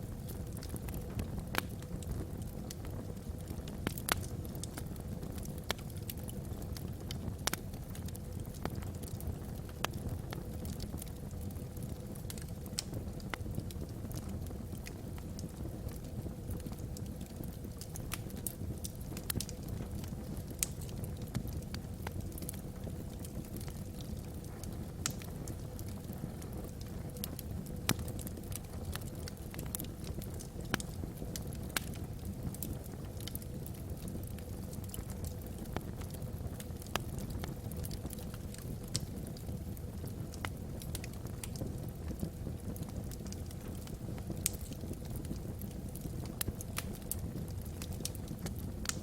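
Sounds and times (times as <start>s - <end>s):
low rush of fire: 0.0s - 49.0s
wood fire crackling and popping: 0.0s - 49.0s.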